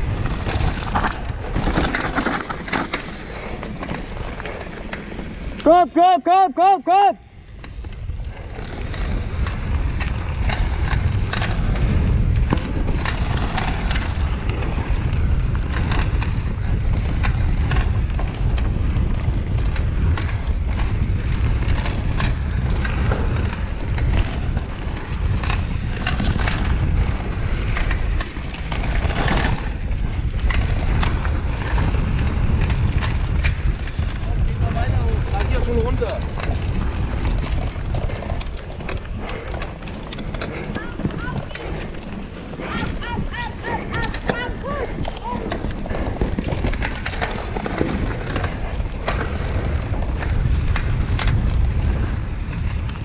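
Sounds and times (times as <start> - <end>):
wind noise on microphone: 0.0 - 5.6, 7.2 - 53.0
bike rattling and knocking: 0.0 - 5.8, 7.4 - 53.0.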